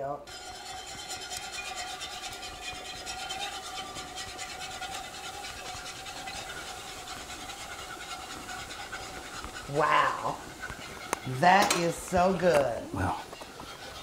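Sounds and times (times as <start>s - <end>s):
wire whisk scraping a pan: 0.3s - 14.0s.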